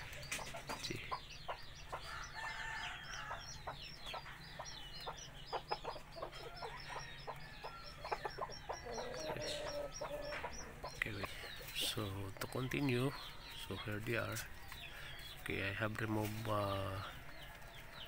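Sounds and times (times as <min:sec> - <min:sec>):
chickens clucking: 0:00.0 - 0:18.0
high peeping calls: 0:00.0 - 0:18.0.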